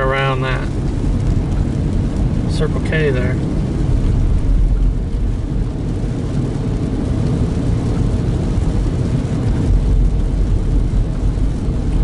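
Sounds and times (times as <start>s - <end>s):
car driving on wet road: 0.0s - 12.0s.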